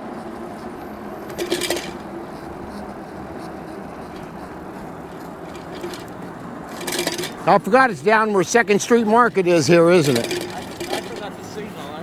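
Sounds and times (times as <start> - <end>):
e-bike road and riding noise: 0.0 - 12.0.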